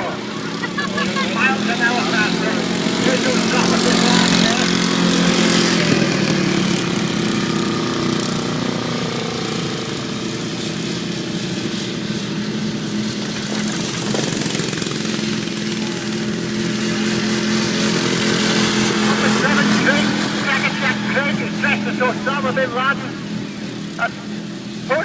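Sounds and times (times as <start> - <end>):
lawnmower engines droning: 0.0 - 25.0.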